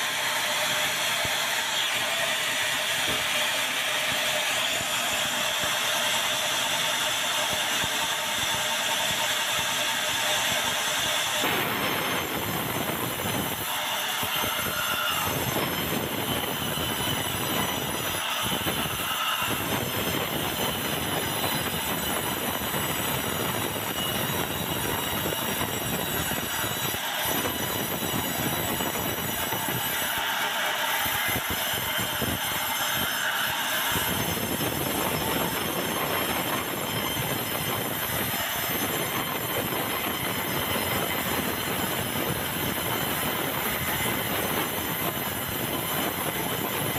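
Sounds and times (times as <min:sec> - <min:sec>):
band saw cutting wood: 0:00.0 - 0:46.9
high saw whine: 0:00.0 - 0:46.9.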